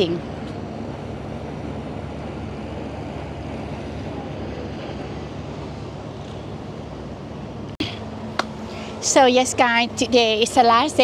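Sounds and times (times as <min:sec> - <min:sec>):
ferry engines rumbling: 0:00.0 - 0:11.0.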